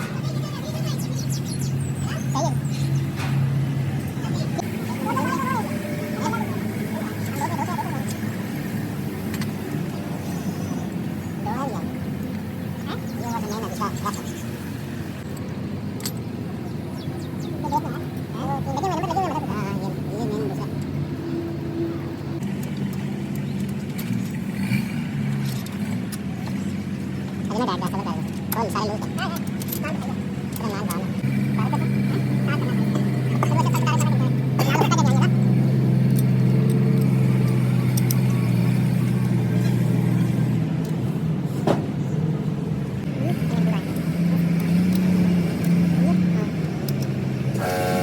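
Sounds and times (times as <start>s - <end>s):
engine hum: 0.0s - 48.0s.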